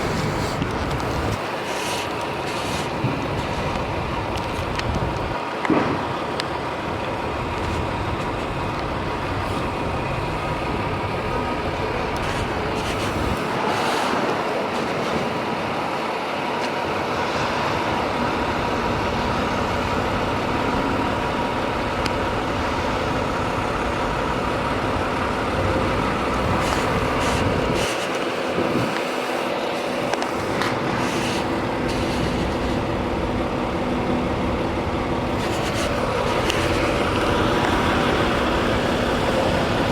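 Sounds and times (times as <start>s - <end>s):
constant hum: 0.0s - 39.9s
motor vehicle engine and road noise: 0.0s - 39.9s.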